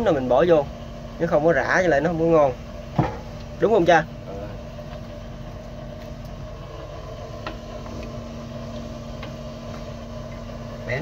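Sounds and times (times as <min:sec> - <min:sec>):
steady engine hum: 0:00.0 - 0:11.0.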